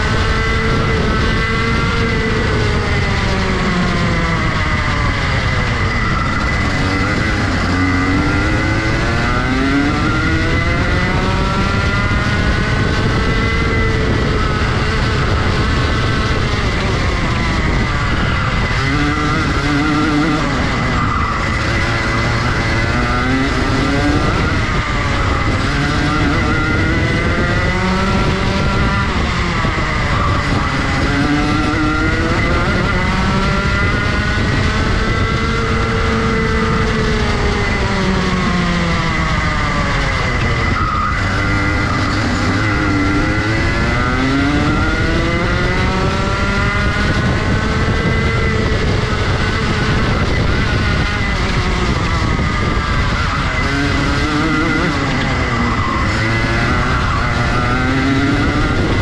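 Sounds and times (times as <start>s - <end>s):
kart engine revving: 0.0s - 59.0s
wind rush: 0.0s - 59.0s.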